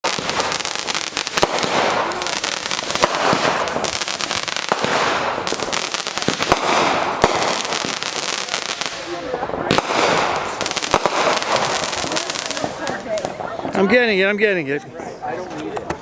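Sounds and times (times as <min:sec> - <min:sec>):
fireworks bangs: 0:00.0 - 0:13.9
fireworks crackling: 0:00.0 - 0:14.1.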